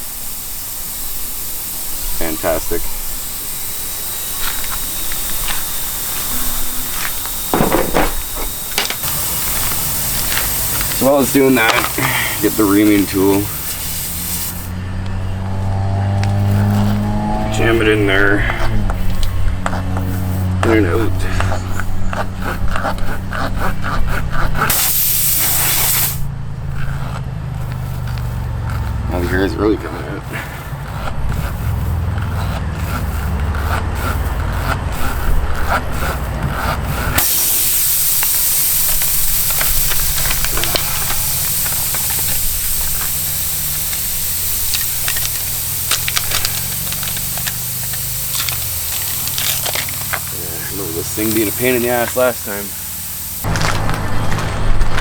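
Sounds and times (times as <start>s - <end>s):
air hissing from a tire: 0.0s - 54.9s
reaming tool rasping in a tire: 0.0s - 55.0s.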